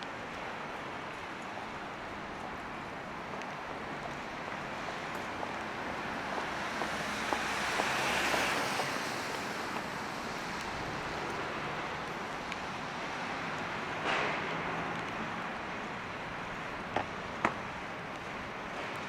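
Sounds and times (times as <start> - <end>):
rain-wet street hiss: 0.0 - 19.0
tyres passing on wet road: 0.0 - 19.0.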